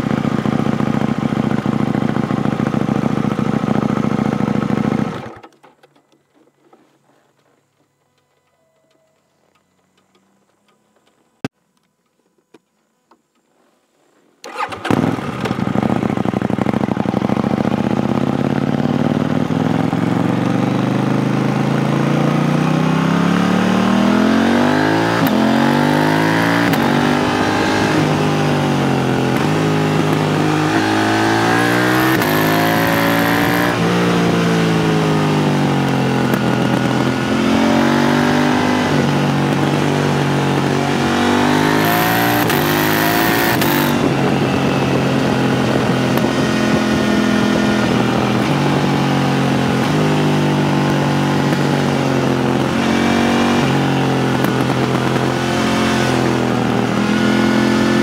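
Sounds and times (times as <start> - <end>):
motorcycle engine revving: 0.0 - 5.5, 14.4 - 58.0.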